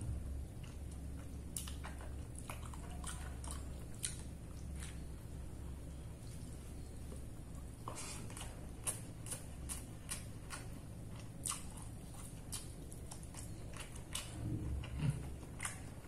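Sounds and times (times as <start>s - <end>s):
person chewing and smacking: 0.6s - 16.0s.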